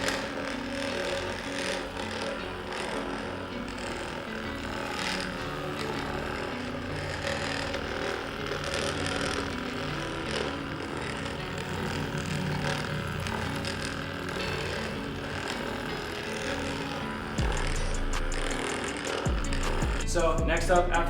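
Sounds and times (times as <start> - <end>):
massage gun buzzing: 0.0 - 21.0.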